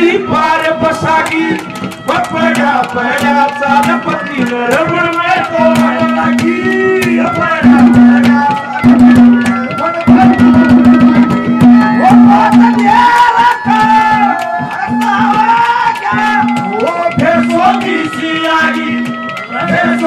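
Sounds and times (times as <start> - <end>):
fast hand drum strokes: 0.0 - 20.0
wavering melodic lead: 0.0 - 20.0.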